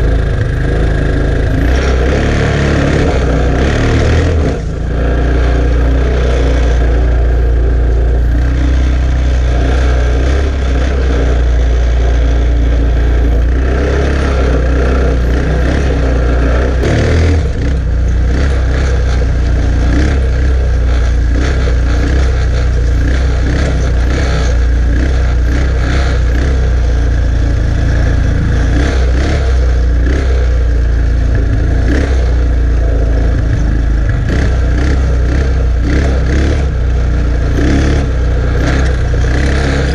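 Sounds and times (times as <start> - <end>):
atv engine running under load: 0.0 - 39.9.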